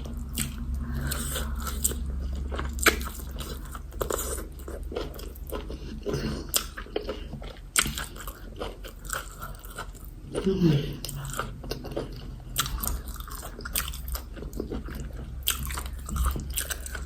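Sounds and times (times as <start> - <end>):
chewing and wet mouth smacks: 0.1 - 10.4, 11.0 - 17.0.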